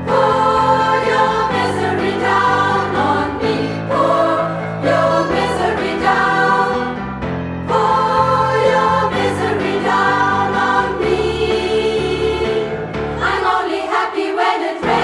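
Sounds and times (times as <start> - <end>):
women's choir singing: 0.0 - 15.0.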